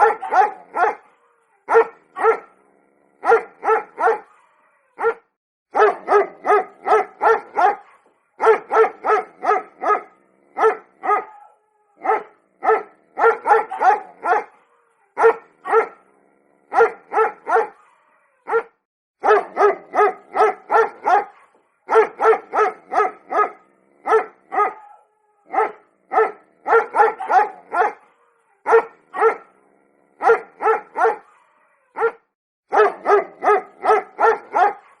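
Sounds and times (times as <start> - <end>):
small dog barking: 0.0 - 2.6, 3.2 - 16.0, 16.7 - 29.6, 30.2 - 35.0.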